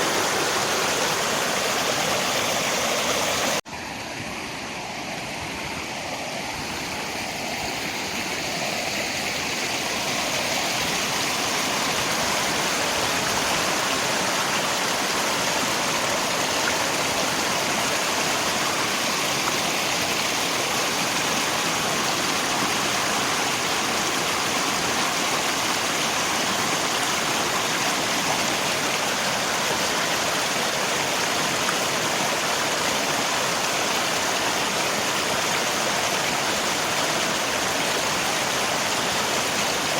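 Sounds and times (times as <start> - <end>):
river water rushing: 0.0 - 39.9
rain: 4.5 - 39.9.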